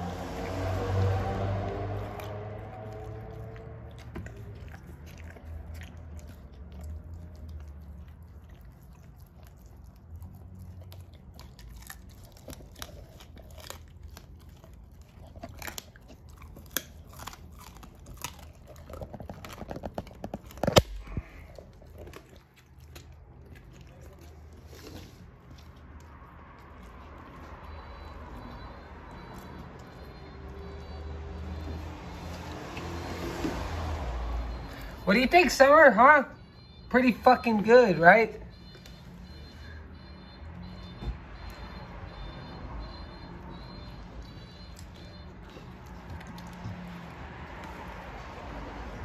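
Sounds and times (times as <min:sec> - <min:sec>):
dog chewing and crunching food: 0:00.0 - 0:39.4, 0:40.4 - 0:49.0.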